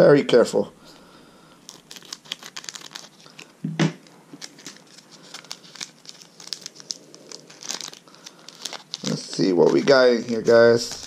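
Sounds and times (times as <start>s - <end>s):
foil wrapper crinkling: 1.6s - 11.0s.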